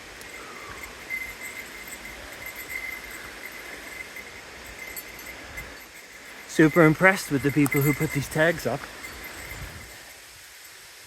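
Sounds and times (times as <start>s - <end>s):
footsteps on wet trail: 0.0s - 10.0s
faint pulsing high tone: 0.0s - 10.1s
steady outdoor hiss: 0.0s - 11.0s.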